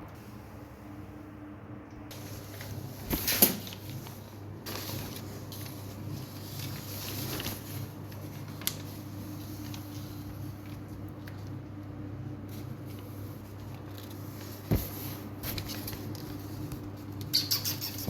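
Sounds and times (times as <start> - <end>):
cats scuffling and rustling: 2.1 - 11.6, 12.3 - 18.0.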